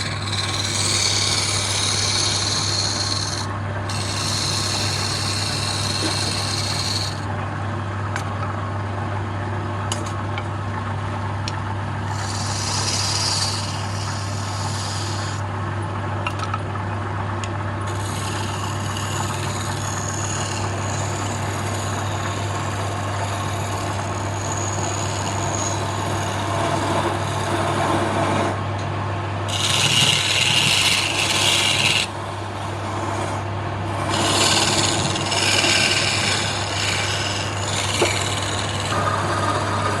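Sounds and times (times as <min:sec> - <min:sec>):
tool scraping spinning wood: 0:00.0 - 0:07.3, 0:12.0 - 0:15.5, 0:17.8 - 0:28.6, 0:29.4 - 0:40.0
wood lathe humming: 0:00.0 - 0:07.3, 0:11.9 - 0:15.5, 0:17.8 - 0:28.6, 0:29.4 - 0:40.0.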